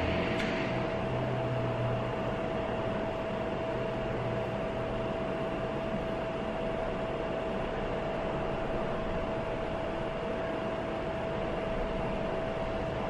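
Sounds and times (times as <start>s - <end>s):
cooling fan whirring: 0.0s - 13.0s.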